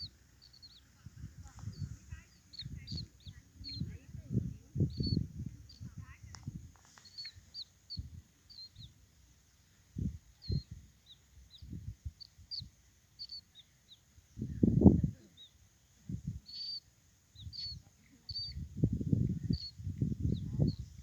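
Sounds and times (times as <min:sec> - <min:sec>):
baby birds chirping: 0:00.0 - 0:21.0.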